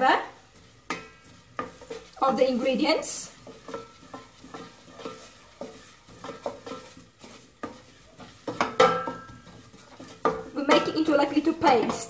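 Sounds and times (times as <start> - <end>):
faint oil sizzle: 0.0 - 12.0
wooden spoon scraping a pot: 0.0 - 12.0.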